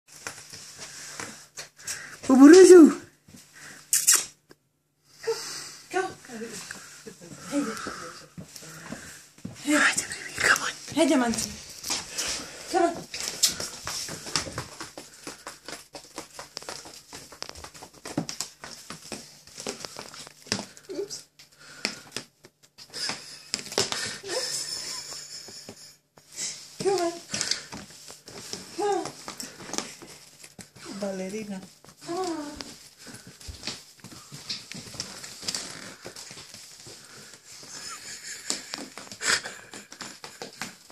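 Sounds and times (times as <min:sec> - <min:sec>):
dog paws pattering on tile: 0:00.1 - 0:40.9.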